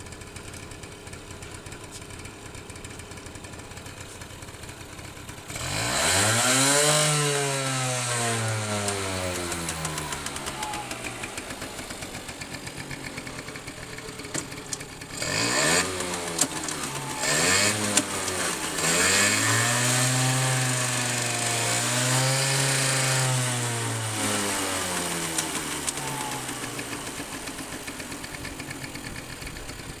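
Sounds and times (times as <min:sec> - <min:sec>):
small engine revving and idling: 0:00.0 - 0:30.0.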